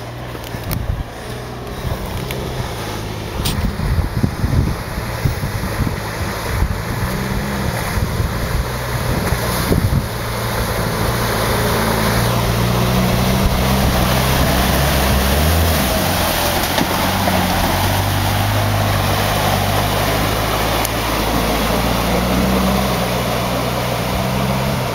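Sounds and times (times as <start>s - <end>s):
truck engine revving under load: 0.0s - 24.9s
tyres churning through mud: 0.0s - 24.9s.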